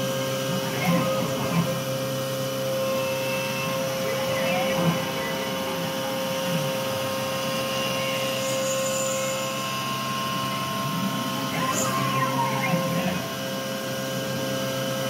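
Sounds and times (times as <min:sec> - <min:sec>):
spindle running noise: 0:00.0 - 0:14.5
high cutting whine of end mill: 0:00.0 - 0:15.0.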